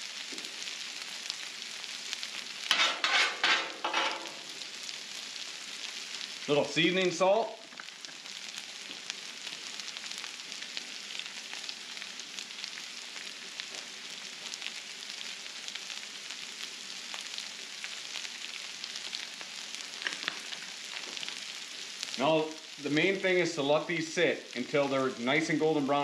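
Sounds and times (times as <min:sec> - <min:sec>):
potatoes sizzling on a griddle: 0:00.0 - 0:26.0.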